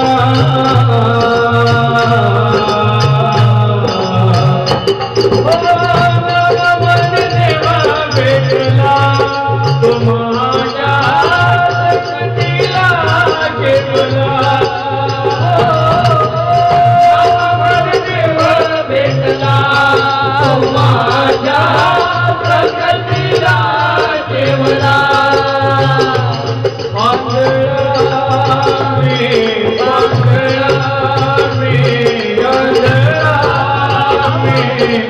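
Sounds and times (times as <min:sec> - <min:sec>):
hand drum beat: 0:00.0 - 0:35.0
keyboard accompaniment: 0:00.0 - 0:35.0
person singing devotional song: 0:00.0 - 0:35.0.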